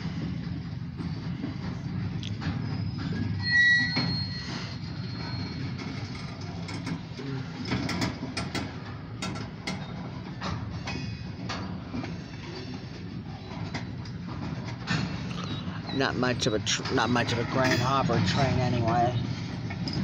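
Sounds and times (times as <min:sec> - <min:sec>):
freight train rumbling: 0:00.0 - 0:20.0
train wheels clicking and knocking: 0:00.0 - 0:20.0.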